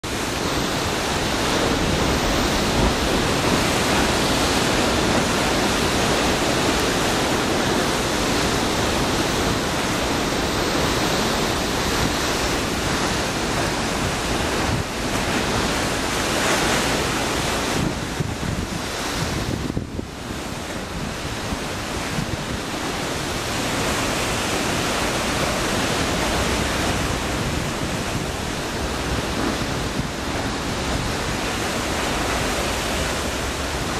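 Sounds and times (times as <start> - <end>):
ocean surf breaking against rocks: 0.0 - 33.9.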